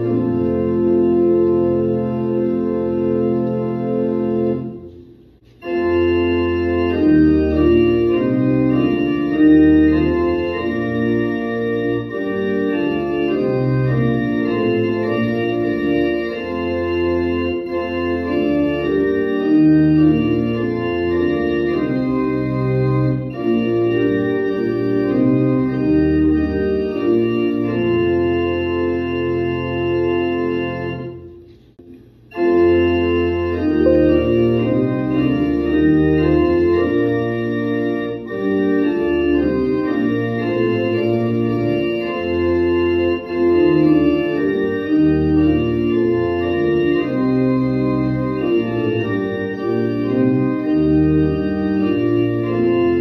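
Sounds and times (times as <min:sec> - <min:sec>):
church organ chords: 0:00.0 - 0:53.0.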